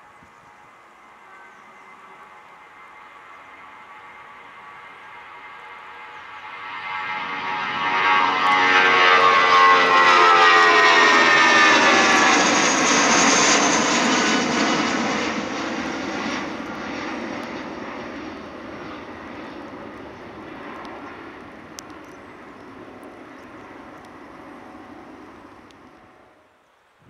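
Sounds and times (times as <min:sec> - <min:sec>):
jet airliner engines whining overhead: 0:00.0 - 0:26.6.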